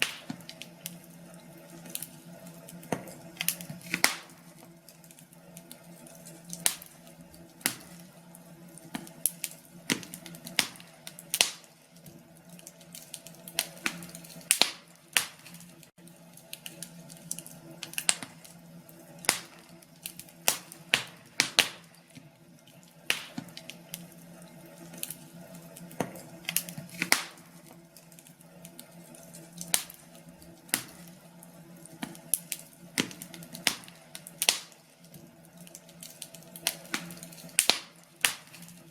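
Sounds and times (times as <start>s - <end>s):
log fire crackling: 0.0s - 38.9s.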